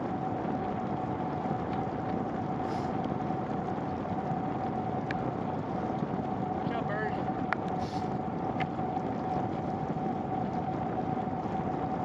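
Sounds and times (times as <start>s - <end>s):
bicycle road noise on wet pavement: 0.0s - 12.0s
rushing wind: 0.0s - 12.0s
steady hum: 0.0s - 12.0s.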